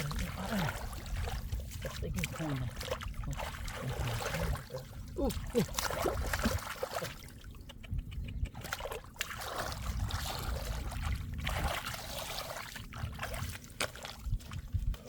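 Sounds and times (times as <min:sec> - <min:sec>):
floodwater trickling and splashing: 0:00.0 - 0:15.0.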